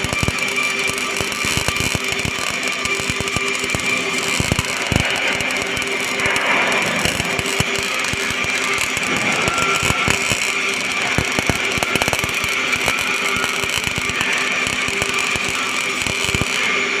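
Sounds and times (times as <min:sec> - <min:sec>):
welding arc crackling: 0:00.0 - 0:17.0.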